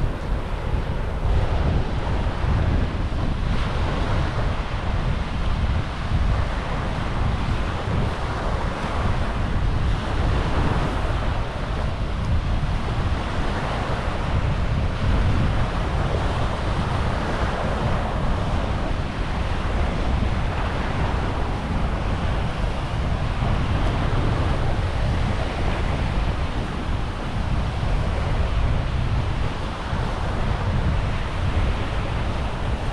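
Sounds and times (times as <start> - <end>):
small waves washing on beach: 0.0 - 32.9
wind buffeting microphone: 0.0 - 32.9.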